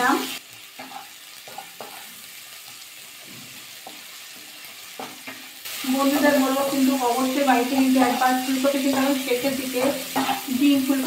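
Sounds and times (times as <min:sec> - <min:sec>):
onions sizzling in hot oil: 0:00.0 - 0:11.0
spatula scraping a pan: 0:00.7 - 0:06.9, 0:07.5 - 0:11.0.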